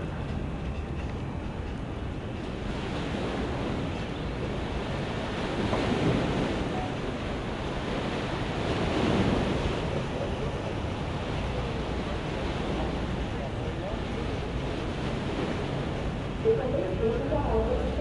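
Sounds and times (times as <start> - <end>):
water rushing and churning: 0.0 - 18.0
wind on microphone: 0.0 - 18.0.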